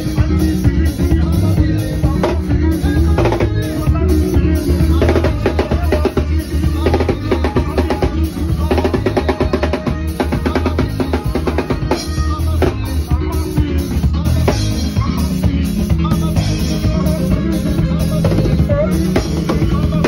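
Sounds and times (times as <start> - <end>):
drum kit fast beat: 0.0 - 20.0
electric bass line: 0.0 - 20.0
live band music: 0.0 - 20.0.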